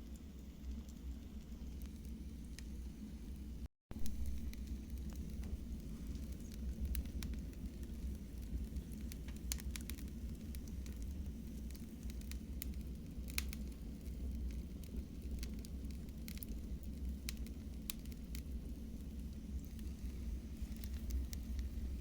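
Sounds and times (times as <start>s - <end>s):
fire crackling and popping: 0.0s - 22.0s
wood fire rumbling: 0.0s - 22.0s.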